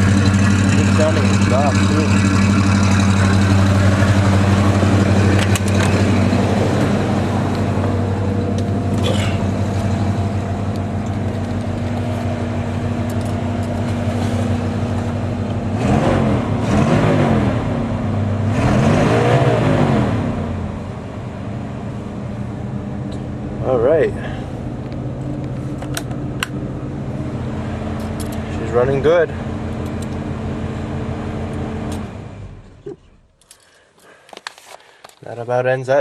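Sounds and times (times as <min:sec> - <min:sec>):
engine idling at exhaust: 0:00.0 - 0:15.8, 0:20.6 - 0:36.0.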